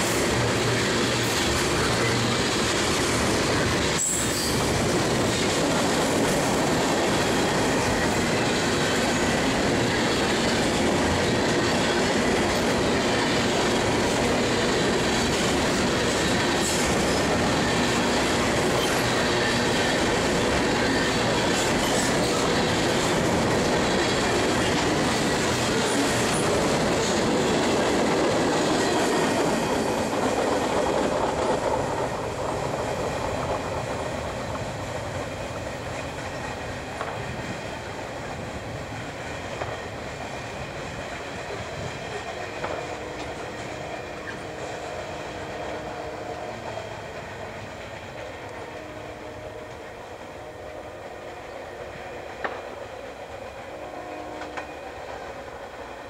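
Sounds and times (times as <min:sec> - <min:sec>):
freight cars rumbling on rails: 0:00.0 - 0:56.0.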